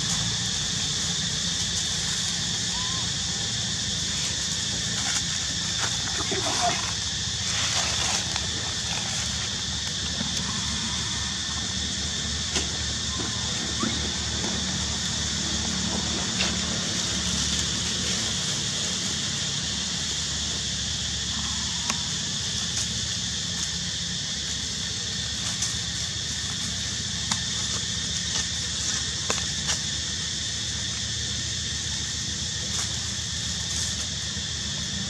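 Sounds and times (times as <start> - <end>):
high hiss: 0.0 - 35.0.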